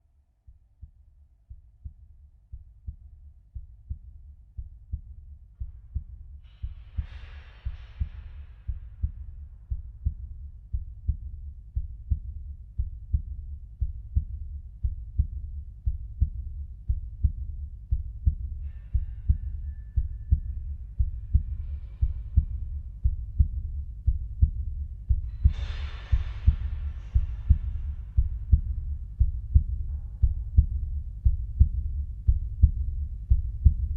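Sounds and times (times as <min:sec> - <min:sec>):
heartbeat thuds: 0:00.5 - 0:33.9.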